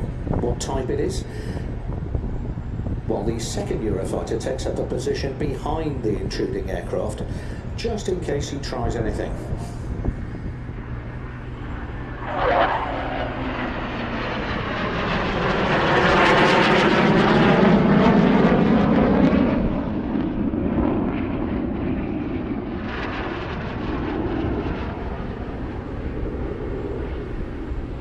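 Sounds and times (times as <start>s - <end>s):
jet aircraft flying past: 0.0s - 28.0s.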